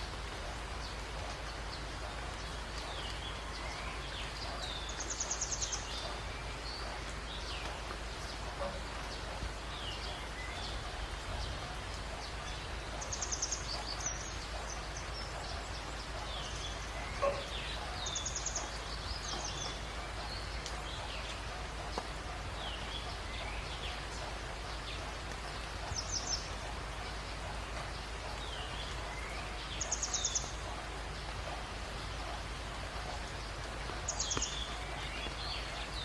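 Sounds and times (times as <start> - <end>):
small birds chirping: 0.0 - 36.0
steady hiss: 0.0 - 36.0.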